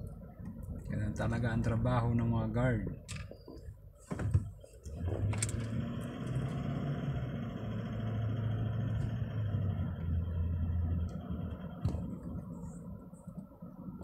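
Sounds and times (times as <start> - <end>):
car engine hum inside cabin: 0.0 - 14.0
road noise: 0.0 - 14.0.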